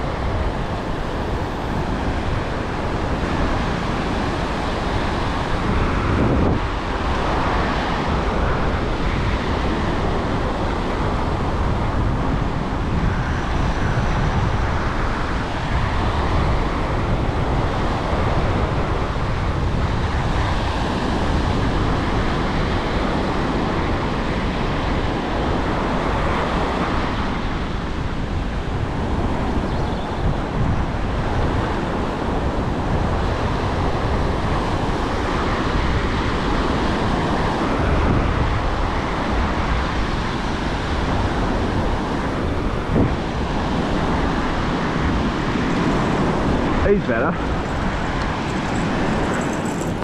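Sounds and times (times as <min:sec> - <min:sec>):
surf washing onto beach: 0:00.0 - 0:50.0
wind buffeting microphone: 0:00.0 - 0:50.0.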